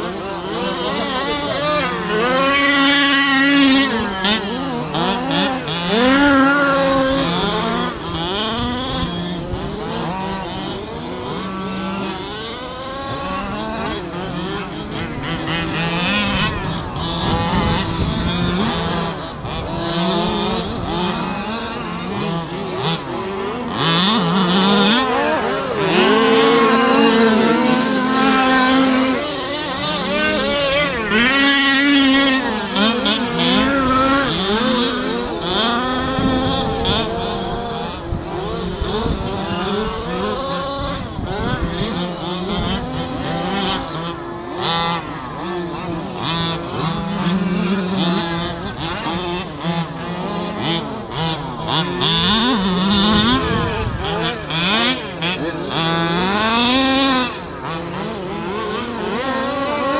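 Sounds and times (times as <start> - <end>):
small two-stroke engines revving: 0.0 - 59.9.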